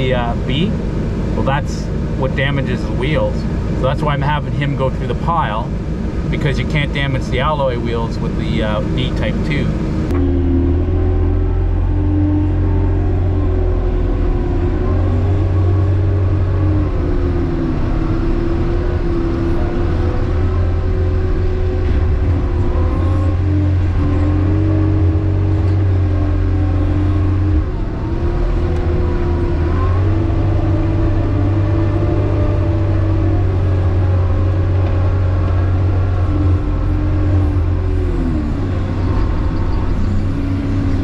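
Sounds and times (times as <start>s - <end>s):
track loader engine under load: 0.0s - 41.0s.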